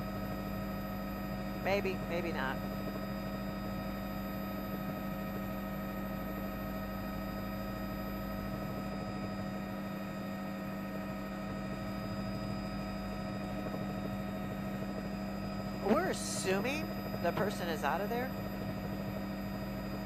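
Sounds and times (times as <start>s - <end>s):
helicopter drone: 0.0s - 20.0s.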